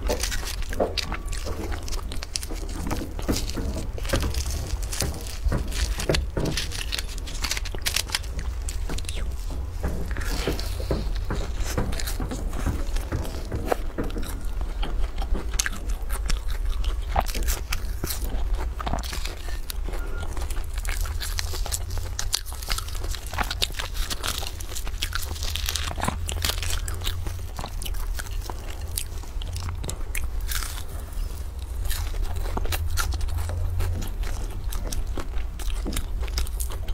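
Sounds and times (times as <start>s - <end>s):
aluminium foil crinkling: 0.0s - 36.9s
chewing crunchy pastry: 0.0s - 36.9s
steady low hum: 0.0s - 36.9s.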